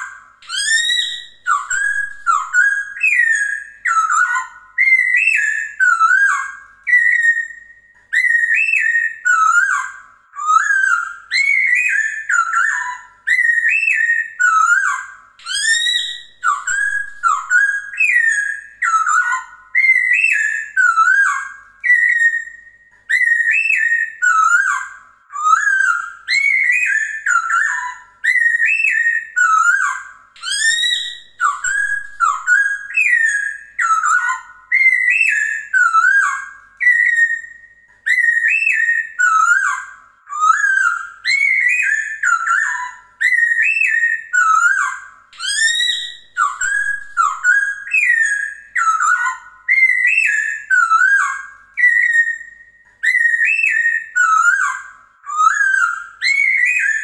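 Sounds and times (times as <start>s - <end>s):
bird singing whistled phrases: 0.0s - 57.0s.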